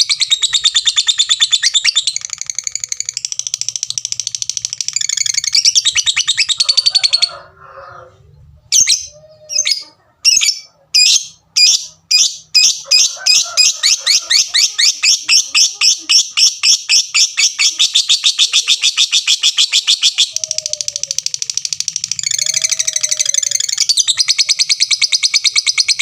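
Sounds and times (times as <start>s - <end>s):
lovebird chattering trill: 0.0s - 7.3s, 8.7s - 26.0s
sharp bird calls: 0.0s - 7.4s, 8.7s - 26.0s.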